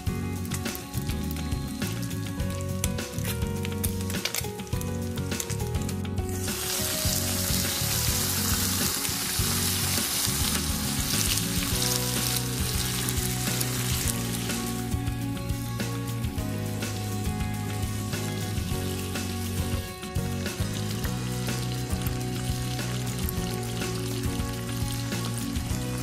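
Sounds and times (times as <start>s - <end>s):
fried rice sizzling in a pan: 0.0s - 15.1s, 15.8s - 26.0s
background music: 0.0s - 26.0s.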